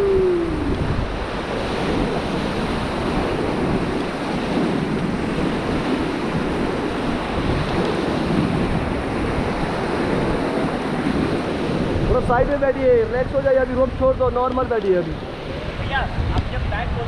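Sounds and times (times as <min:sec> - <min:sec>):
rushing whitewater river: 0:00.0 - 0:17.0
wind buffeting microphone: 0:00.0 - 0:17.0.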